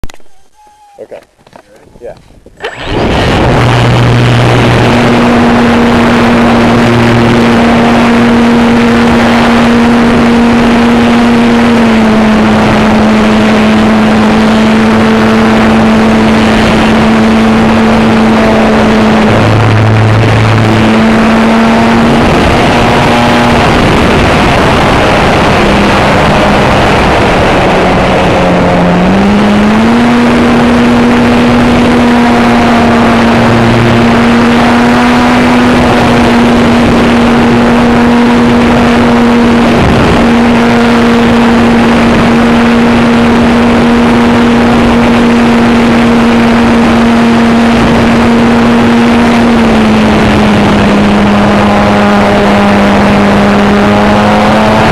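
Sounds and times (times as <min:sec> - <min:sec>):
wind blasting microphone: 0:01.4 - 0:54.9
model airplane motor drone: 0:02.6 - 0:54.9.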